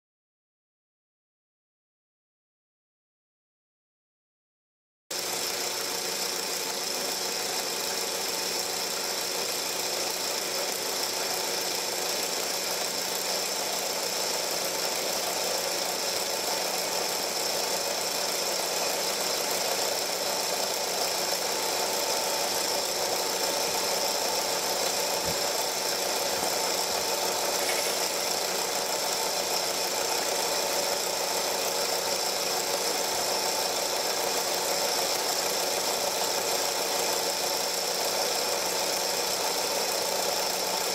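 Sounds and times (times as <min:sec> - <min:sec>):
film projector running: 0:05.2 - 0:40.9.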